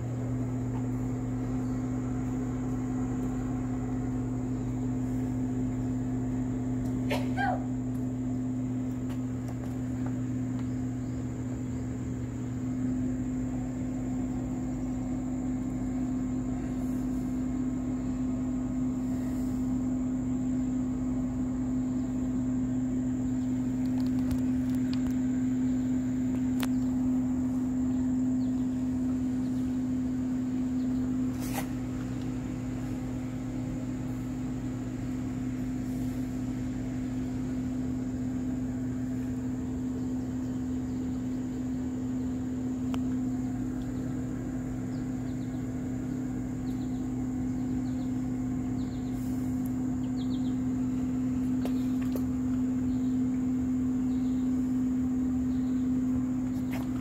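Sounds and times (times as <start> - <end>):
vending machine humming: 0.0 - 57.0.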